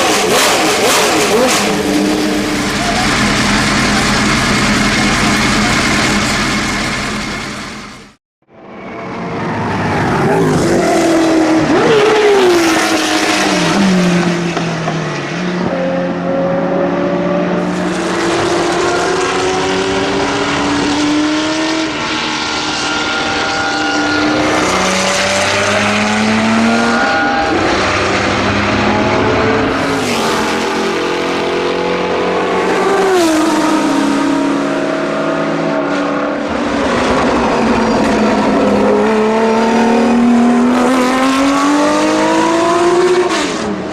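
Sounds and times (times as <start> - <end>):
racing engine revving: 0.0 - 8.2, 15.6 - 43.9.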